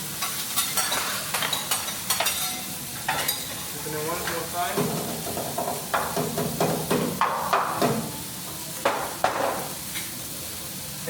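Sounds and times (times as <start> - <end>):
metal utensils striking a griddle: 0.2 - 8.1, 8.8 - 10.1.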